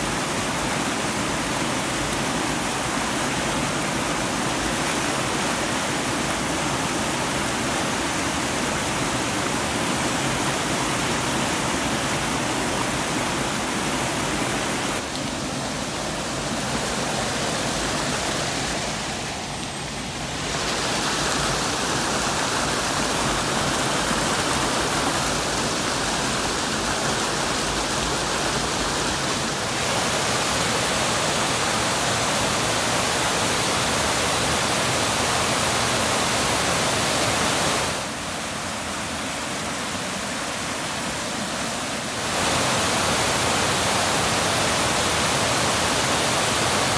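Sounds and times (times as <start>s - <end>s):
water rushing over weirs: 0.0s - 46.9s.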